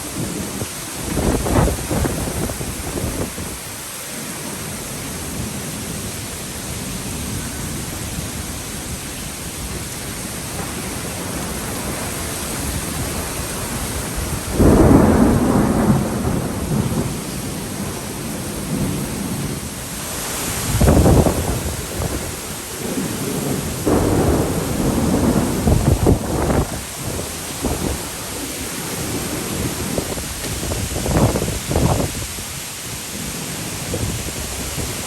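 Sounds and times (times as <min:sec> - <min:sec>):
thunder rumbling: 0:00.0 - 0:03.9, 0:07.2 - 0:32.4
rain and wind: 0:00.0 - 0:35.0.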